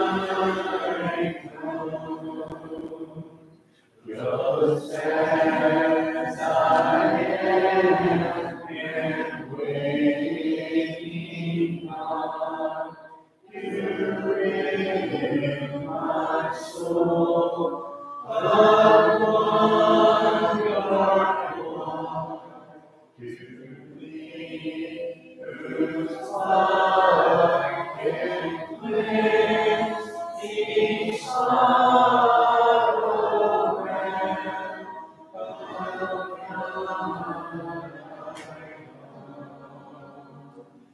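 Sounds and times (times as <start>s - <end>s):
congregation singing a hymn: 0.0s - 40.9s.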